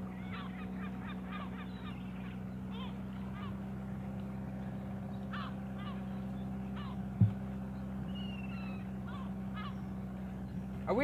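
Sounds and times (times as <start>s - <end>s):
birds calling: 0.0s - 11.0s
boat engine running: 0.0s - 11.0s.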